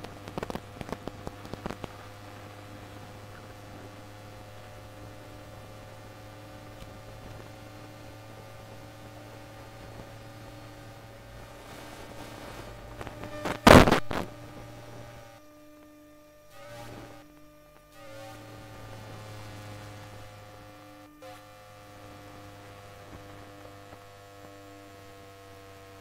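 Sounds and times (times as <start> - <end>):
electromagnetic hum: 0.0 - 26.0
interference crackle: 0.0 - 26.0
whining electrical tones: 0.0 - 26.0.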